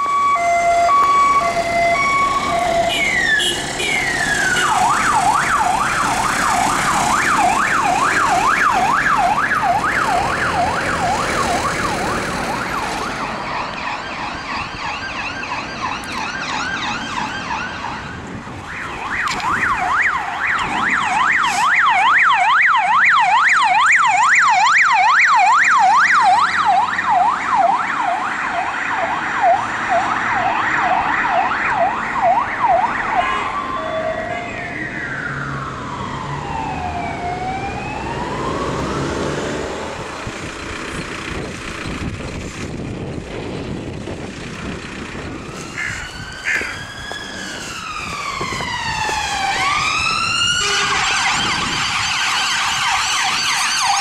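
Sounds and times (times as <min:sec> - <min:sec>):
yelp siren sweeping up and down: 0:00.0 - 0:40.4, 0:45.1 - 0:54.0
emergency vehicle sirens: 0:00.0 - 0:54.0.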